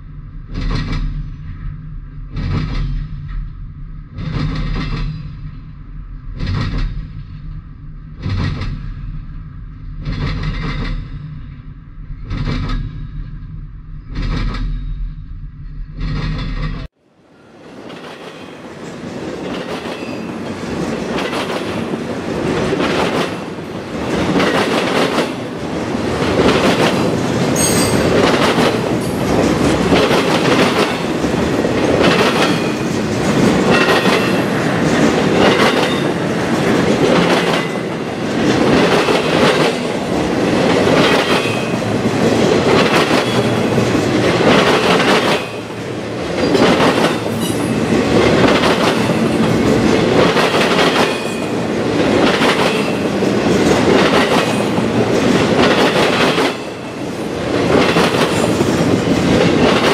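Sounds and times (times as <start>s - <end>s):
train wheels clicking over rail joints: 0.4s - 16.9s, 17.8s - 59.9s.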